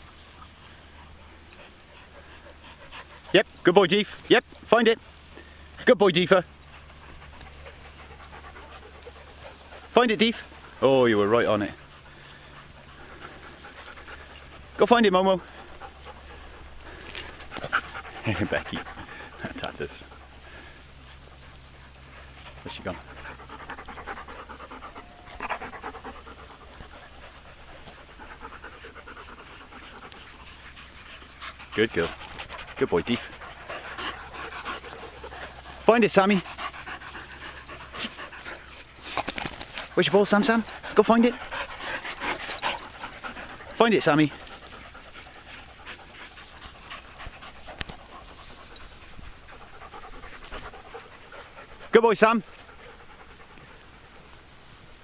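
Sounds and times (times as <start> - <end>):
dog panting: 0.0 - 54.5.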